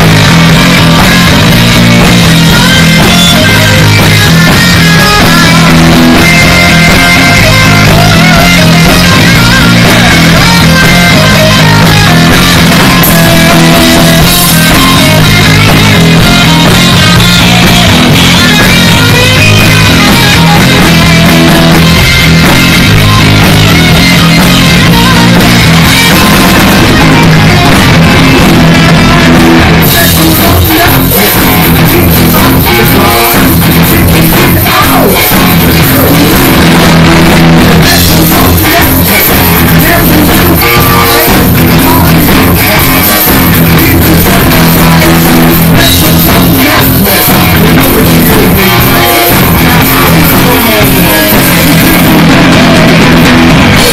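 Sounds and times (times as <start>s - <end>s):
bass guitar: 0.0s - 53.9s
drum kit: 0.0s - 53.9s
electric guitar: 0.0s - 53.9s
sung vocals: 0.0s - 53.9s.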